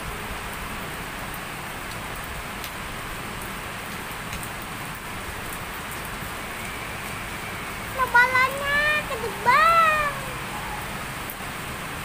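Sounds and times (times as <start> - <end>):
heavy rain: 0.0 - 12.0
ticks of raindrops: 0.0 - 12.0.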